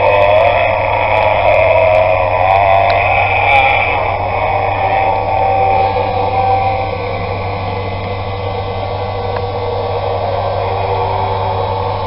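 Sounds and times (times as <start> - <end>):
low hum: 0.0 - 12.0
steady hiss: 0.0 - 12.0.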